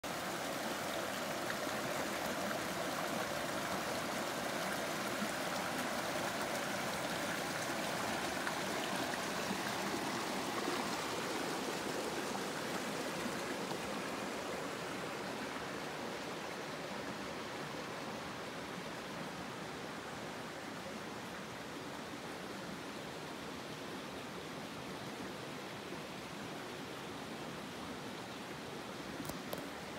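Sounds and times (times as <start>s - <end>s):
stream rushing over stones: 0.0s - 29.9s.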